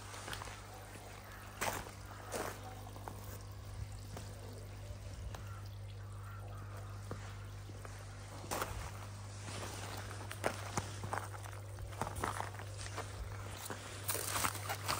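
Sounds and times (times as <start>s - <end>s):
pump low hum: 0.0s - 14.9s
water splashing onto pond: 0.0s - 14.9s.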